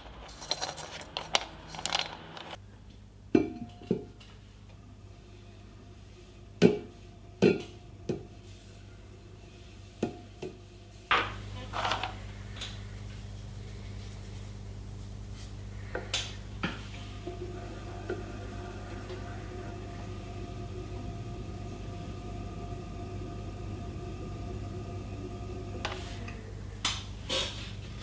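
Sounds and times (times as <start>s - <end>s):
potter's wheel humming: 0.0s - 2.7s, 3.4s - 28.0s.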